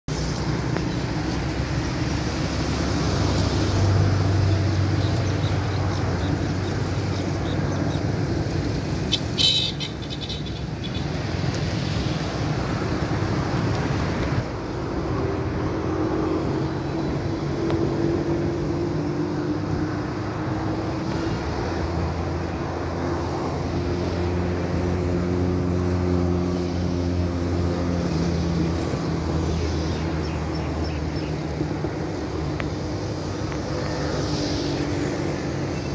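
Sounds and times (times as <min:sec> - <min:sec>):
distant road traffic: 0:00.1 - 0:35.9.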